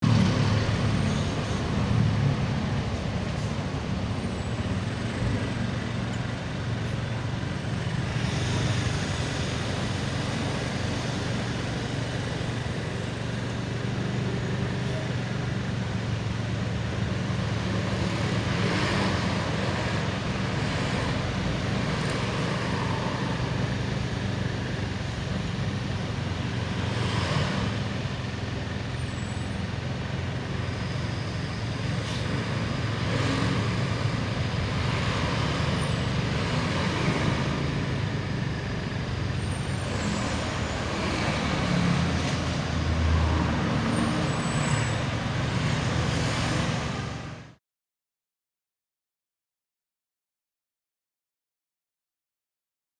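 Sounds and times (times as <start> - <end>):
bus engine humming: 0.0 - 47.6
road traffic noise: 0.0 - 47.6.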